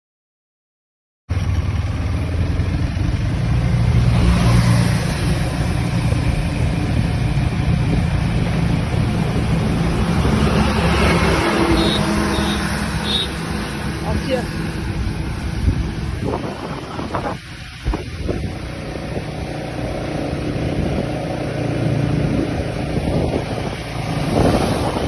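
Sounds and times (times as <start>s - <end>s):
motorcycle engine hum: 1.3s - 25.0s
wind and road noise: 1.3s - 25.0s.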